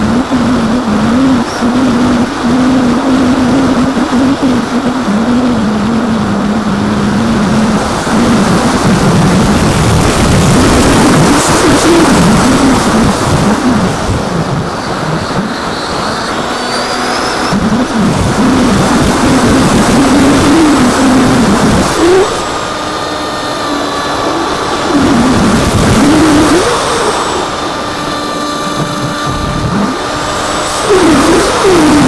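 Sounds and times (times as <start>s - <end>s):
electric motor and propeller buzz: 0.0s - 32.0s.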